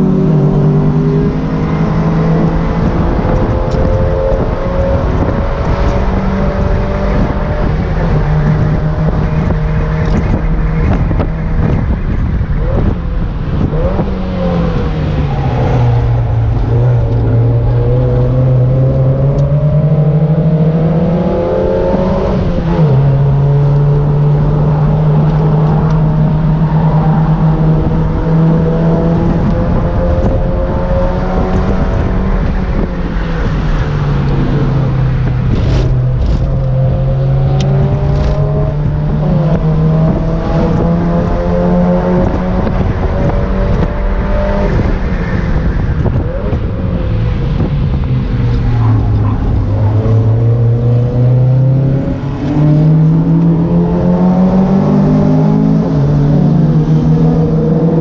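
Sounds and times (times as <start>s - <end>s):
car engine revving: 0.0s - 58.0s
wind rushing: 0.0s - 58.0s.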